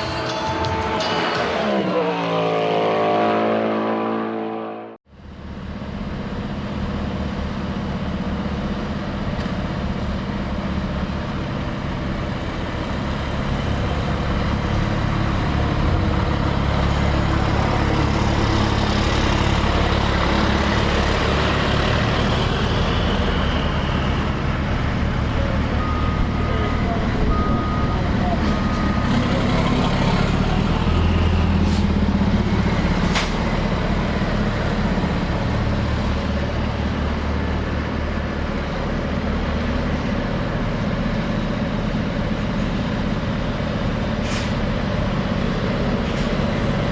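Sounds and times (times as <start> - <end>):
low diesel engine rumble: 5.1 - 46.9.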